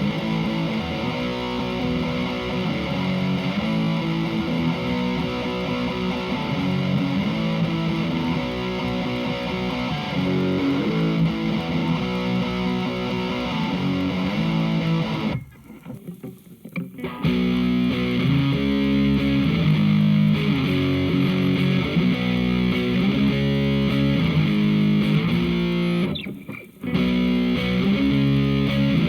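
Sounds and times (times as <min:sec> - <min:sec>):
distorted electric guitar chords: 0:00.0 - 0:29.0.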